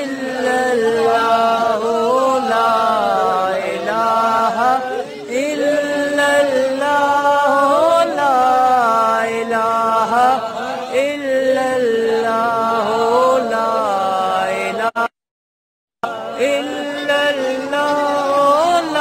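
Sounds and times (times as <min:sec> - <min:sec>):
men chanting: 0:00.0 - 0:15.1, 0:16.0 - 0:19.0.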